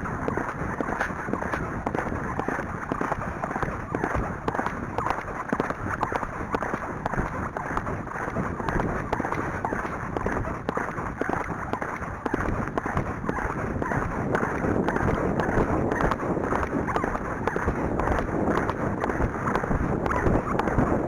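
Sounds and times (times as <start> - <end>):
wind buffeting microphone: 0.0 - 21.0
horse hoofbeats: 0.1 - 21.0.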